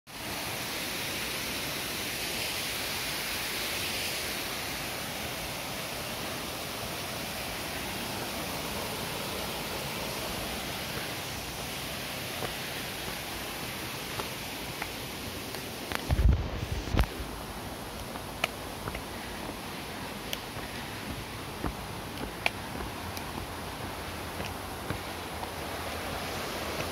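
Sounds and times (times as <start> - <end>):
stream water rushing over cascades: 0.1 - 26.9.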